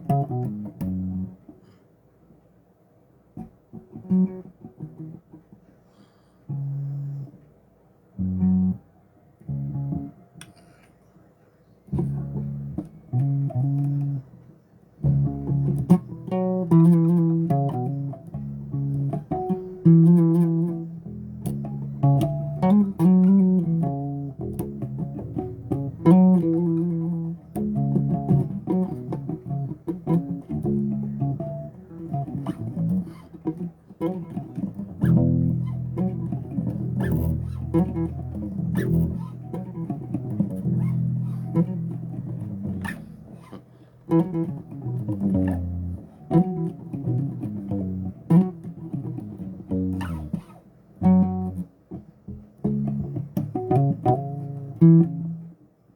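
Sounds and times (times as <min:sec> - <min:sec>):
bass guitar plucked notes: 0:00.0 - 0:01.4, 0:03.4 - 0:05.3, 0:06.5 - 0:07.3, 0:08.2 - 0:08.8, 0:09.5 - 0:10.1, 0:11.9 - 0:14.3, 0:15.0 - 0:55.6.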